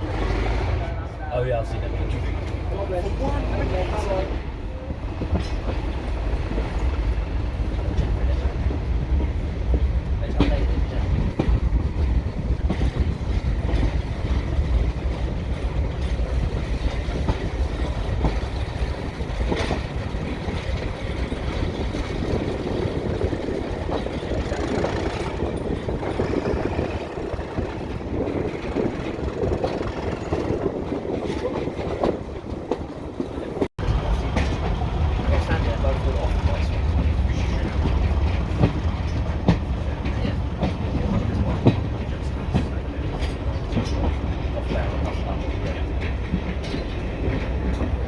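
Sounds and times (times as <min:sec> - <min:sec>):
train low rumble: 0:00.0 - 0:48.0.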